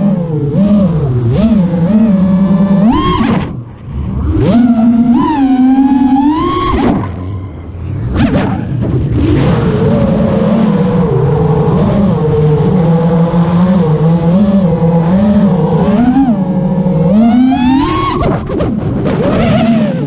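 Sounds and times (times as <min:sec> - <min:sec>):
quadcopter motors whining: 0:00.0 - 0:08.4, 0:09.2 - 0:20.0.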